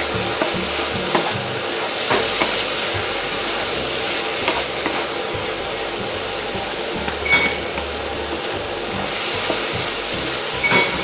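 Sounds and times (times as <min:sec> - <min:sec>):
food sizzling in a pan: 0:00.0 - 0:11.0
wooden spatula scraping pan: 0:00.1 - 0:11.0.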